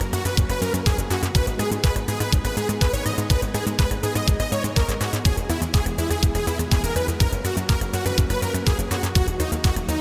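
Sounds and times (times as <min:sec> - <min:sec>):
electronic dance music: 0:00.0 - 0:10.0
kick drum beat: 0:00.0 - 0:10.0.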